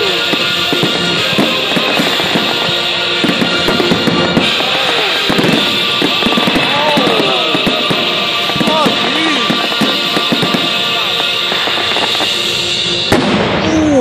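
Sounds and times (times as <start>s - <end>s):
fireworks banging and crackling: 0.0s - 14.0s
loud music: 0.0s - 14.0s.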